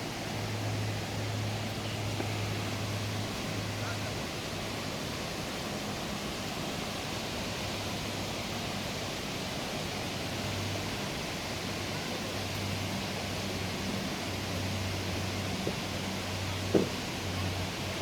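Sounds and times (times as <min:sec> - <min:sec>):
fast-flowing water rushing: 0:00.0 - 0:18.0.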